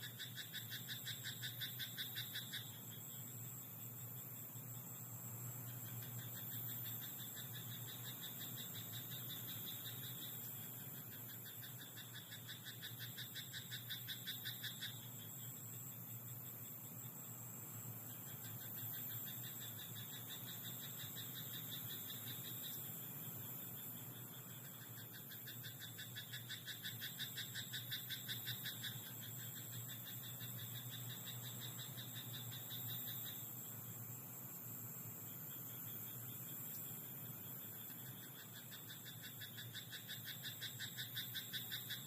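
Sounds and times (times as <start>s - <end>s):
frogs croaking: 0.0s - 42.0s
steady high-pitched hiss: 0.0s - 42.0s.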